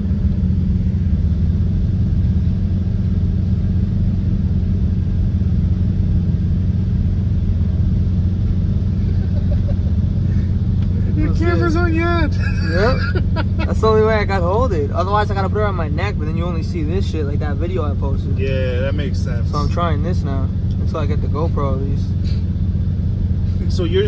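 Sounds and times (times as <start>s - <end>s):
car engine running steadily: 0.0s - 24.0s.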